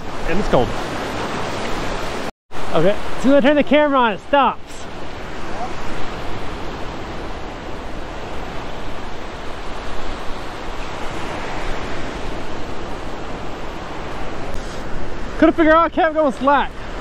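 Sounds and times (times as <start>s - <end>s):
waves breaking: 0.0s - 17.0s.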